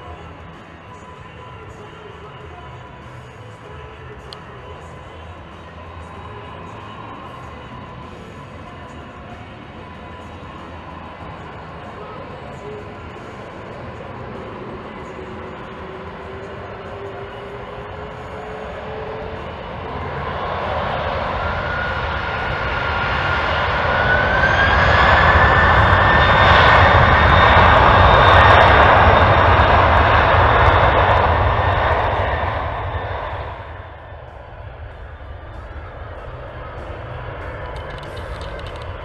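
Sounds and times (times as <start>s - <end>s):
jet engines roaring at takeoff: 0.0s - 39.0s.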